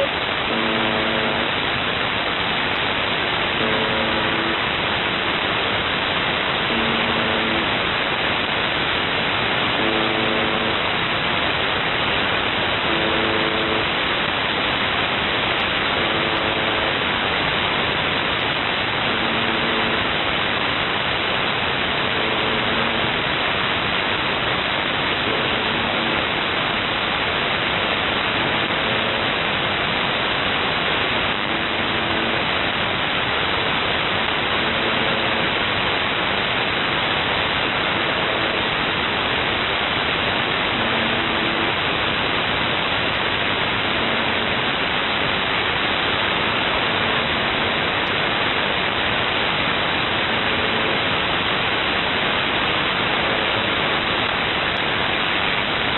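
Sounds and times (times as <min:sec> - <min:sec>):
faint buzz tone: 0:00.0 - 0:55.8
radio static hiss: 0:00.0 - 0:55.9.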